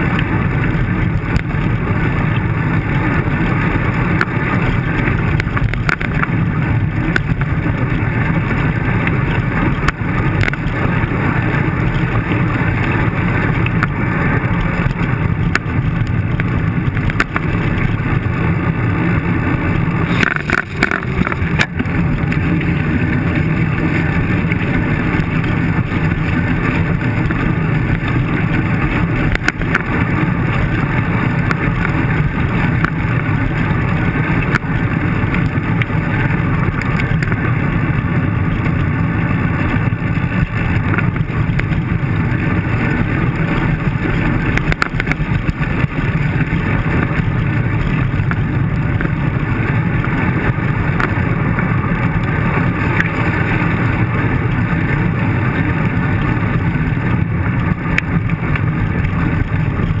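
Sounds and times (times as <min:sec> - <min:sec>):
bicycle road vibration: 0:00.0 - 1:00.0
traffic engines: 0:00.0 - 1:00.0
wind rumble: 0:00.0 - 1:00.0.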